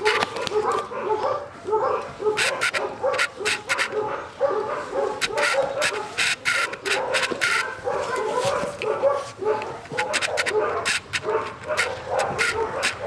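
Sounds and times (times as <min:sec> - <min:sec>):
clicks and rustles of handling: 0:00.0 - 0:13.0
pet animal whining: 0:00.0 - 0:13.0.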